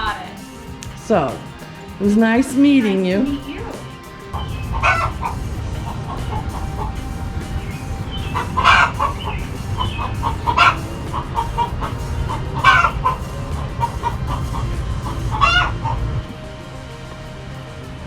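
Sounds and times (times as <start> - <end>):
chickens clucking: 0.0 - 18.0
low rumble: 2.0 - 18.0.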